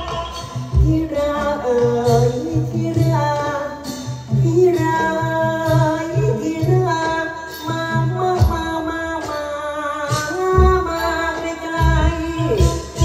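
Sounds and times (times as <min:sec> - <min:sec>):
instrumental accompaniment with low beat: 0:00.0 - 0:13.0
ornamented vocal melody: 0:00.0 - 0:13.0.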